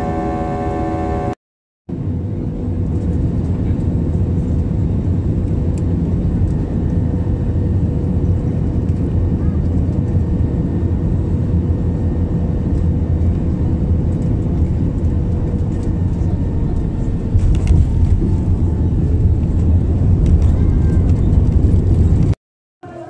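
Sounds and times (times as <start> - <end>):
engine and airflow rumble: 1.9 - 22.4.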